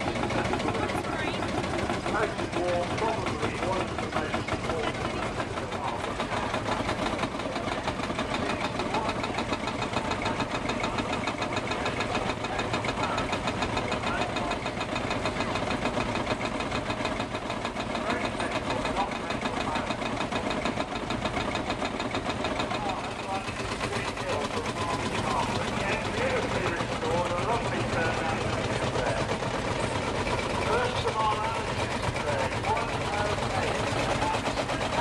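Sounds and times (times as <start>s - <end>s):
tractor diesel engines chugging: 0.0s - 35.0s.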